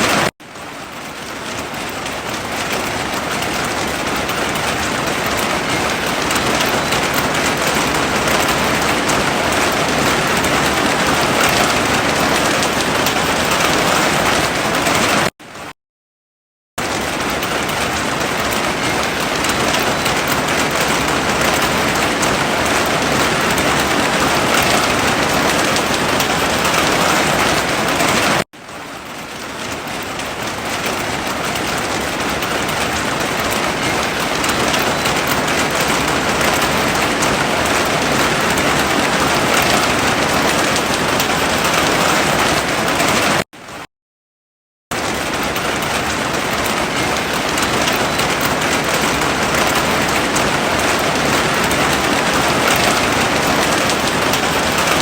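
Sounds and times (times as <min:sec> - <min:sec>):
heavy rain falling: 0:00.0 - 0:15.3, 0:16.8 - 0:43.8, 0:44.9 - 0:55.0.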